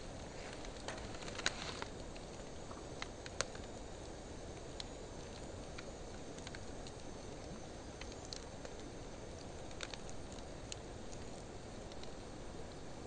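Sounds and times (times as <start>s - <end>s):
fire crackles and pops: 0.0s - 13.0s.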